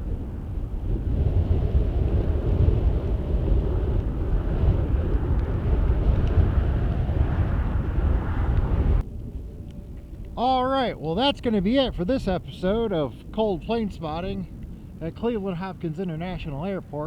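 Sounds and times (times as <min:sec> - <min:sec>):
aircraft engines rumbling: 0:00.0 - 0:17.0.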